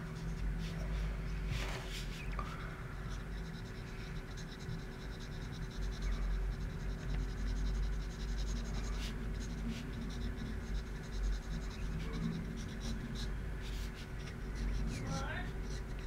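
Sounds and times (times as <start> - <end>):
low steady hum: 0.0 - 16.0
pencil scratching on paper: 0.0 - 16.0.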